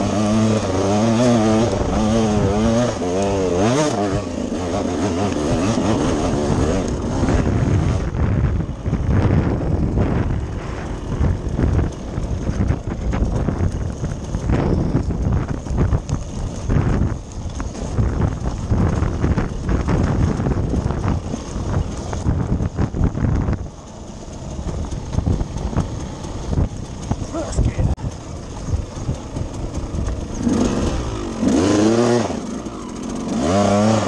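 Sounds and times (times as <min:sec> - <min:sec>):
wind buffeting microphone: 0:05.1 - 0:33.3.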